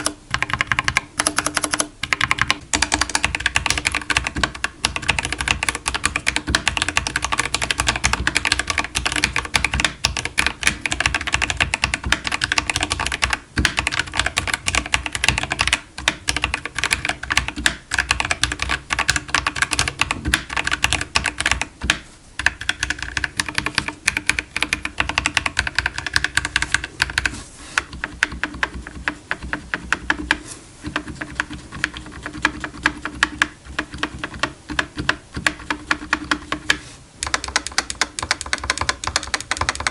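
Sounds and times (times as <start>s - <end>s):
rapid mechanical keyboard typing: 0.0s - 39.9s.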